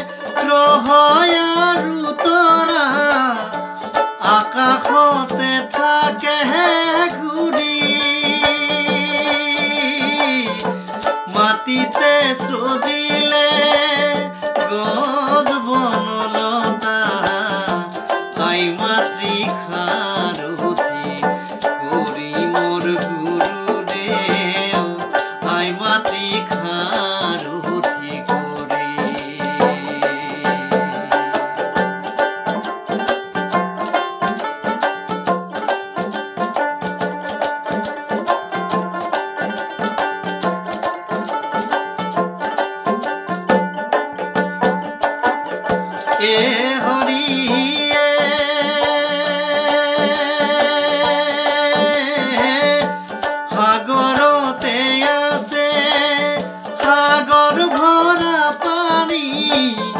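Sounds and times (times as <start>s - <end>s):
man singing: 0.0s - 42.6s, 44.3s - 59.9s
hand drum: 0.0s - 59.9s
plucked lute: 0.0s - 59.9s.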